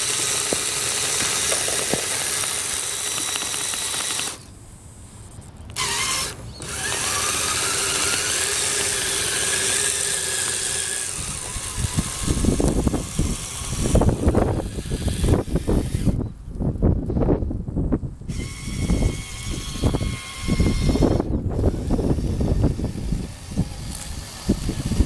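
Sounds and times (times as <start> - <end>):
electric motor whining: 0.0 - 4.5, 5.8 - 16.2, 18.3 - 25.0.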